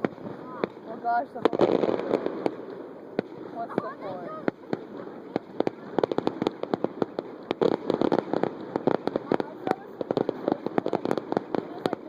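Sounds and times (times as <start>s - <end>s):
firecrackers popping and crackling: 0.0s - 12.0s.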